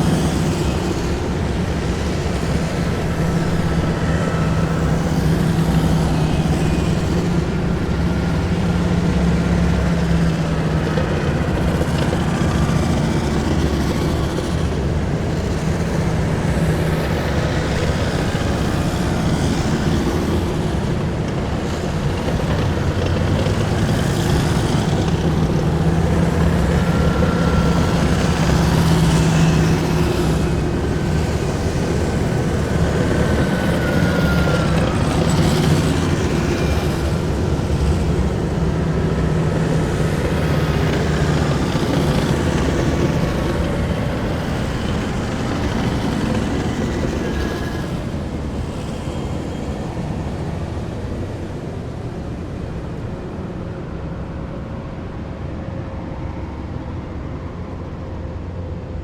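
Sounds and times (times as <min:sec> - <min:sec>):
deep engine drone: 0:00.0 - 0:59.0.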